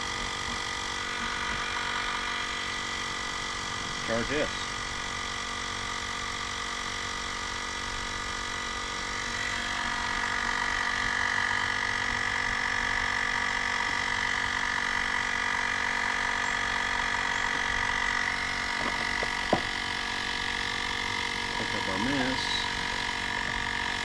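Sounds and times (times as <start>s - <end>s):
air compressor whining: 0.0s - 24.0s.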